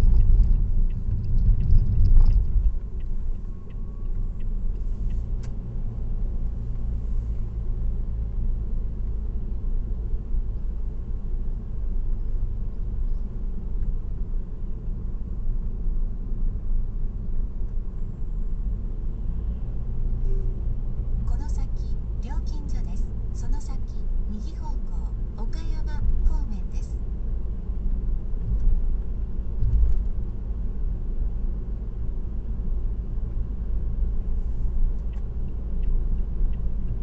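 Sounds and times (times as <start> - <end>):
car road rumble: 0.0 - 37.0.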